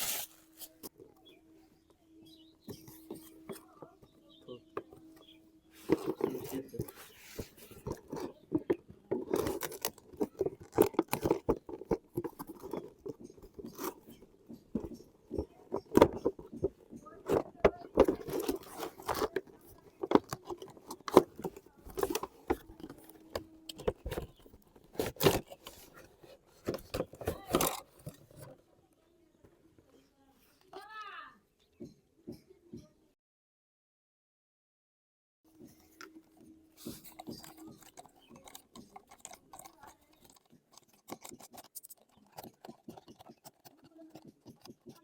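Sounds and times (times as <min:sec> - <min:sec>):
toy and packaging being handled: 0:00.0 - 0:31.0, 0:35.5 - 0:45.0.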